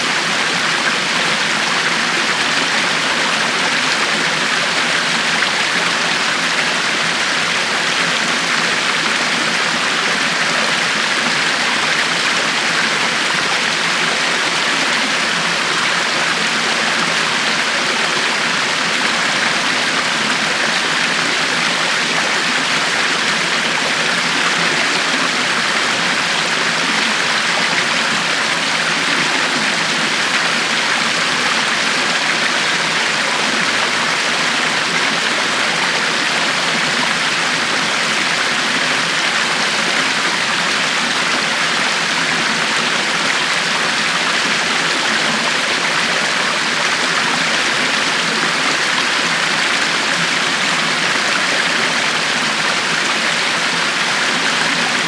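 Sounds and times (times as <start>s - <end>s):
river water rushing and splashing: 0.0s - 55.0s.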